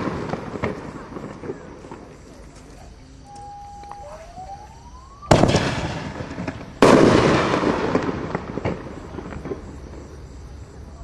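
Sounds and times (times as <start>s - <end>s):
firework shells bursting: 0.0s - 10.2s
scattered firework pops: 0.0s - 10.3s
firework crackling: 0.0s - 11.0s.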